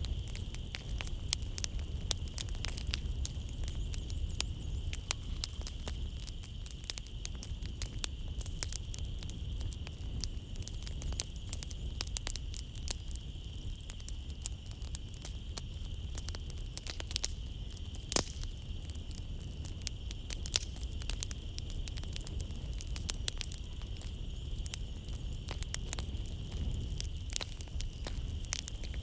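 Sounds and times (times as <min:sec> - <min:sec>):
low rumble of flames: 0:00.0 - 0:29.0
night insects chirring: 0:00.0 - 0:29.0
wood fire crackling and popping: 0:00.0 - 0:29.0.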